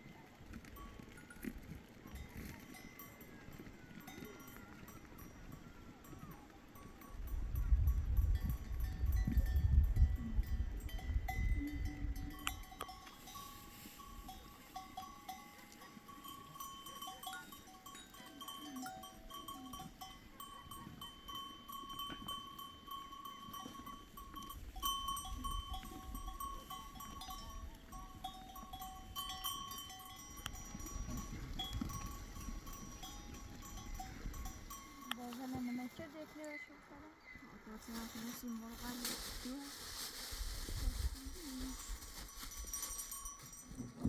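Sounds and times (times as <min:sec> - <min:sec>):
animal bells ringing: 0:00.0 - 0:44.0.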